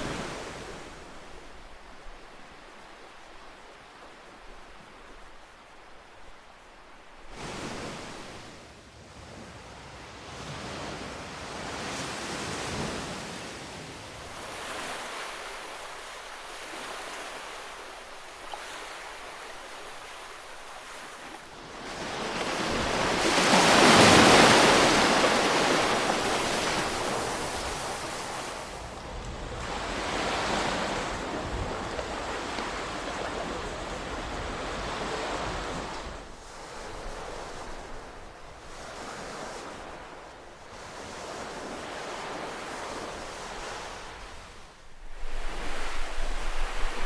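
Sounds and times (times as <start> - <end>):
ocean waves washing onto shore: 0.0 - 47.0.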